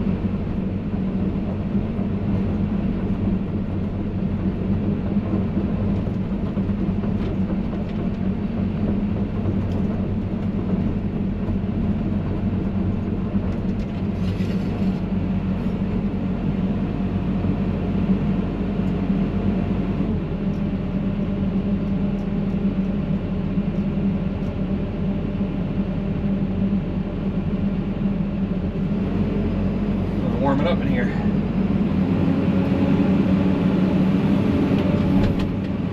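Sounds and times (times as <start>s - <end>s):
excavator diesel engine droning: 0.0s - 35.9s.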